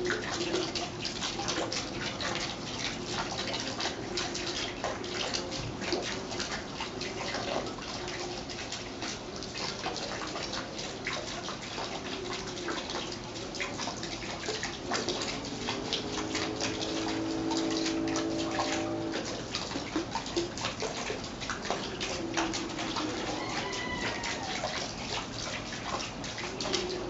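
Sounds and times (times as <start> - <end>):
low steady hum: 0.0 - 27.0
water trickling into pool: 0.0 - 27.0.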